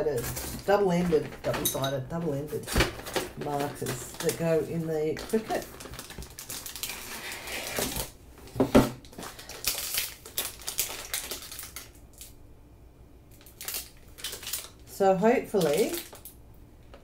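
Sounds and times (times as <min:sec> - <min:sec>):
cardboard and plastic packaging rustling: 0:00.0 - 0:12.3, 0:13.3 - 0:16.3.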